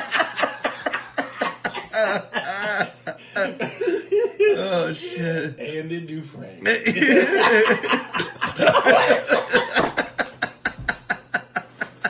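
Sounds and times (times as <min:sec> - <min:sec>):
men laughing hard: 0:00.0 - 0:04.6, 0:06.7 - 0:12.0.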